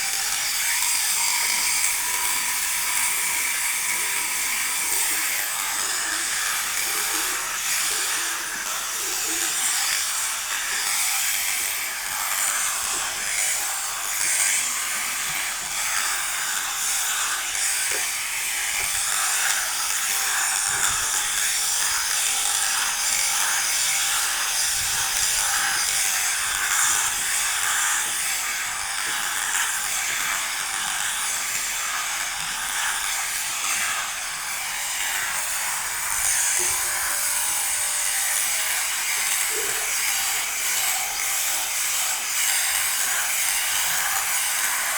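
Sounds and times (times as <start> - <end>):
sheep shearing machine running: 0.0 - 44.9.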